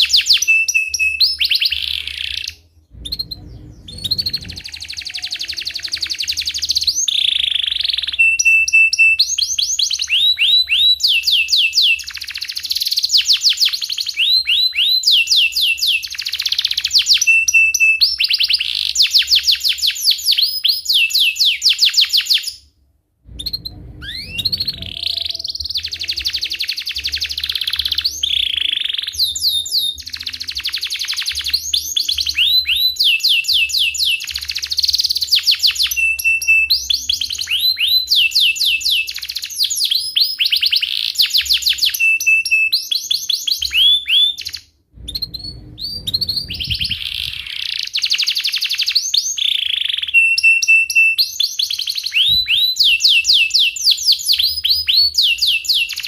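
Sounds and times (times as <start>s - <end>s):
canary singing trills: 0.0s - 22.6s, 23.3s - 56.0s.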